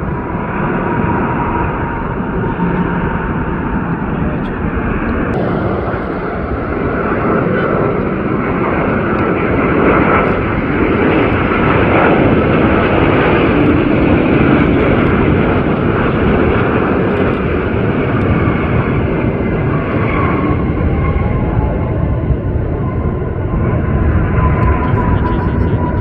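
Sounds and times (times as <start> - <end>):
faint engine whine: 0.0 - 26.0
jet engines rushing: 0.0 - 26.0.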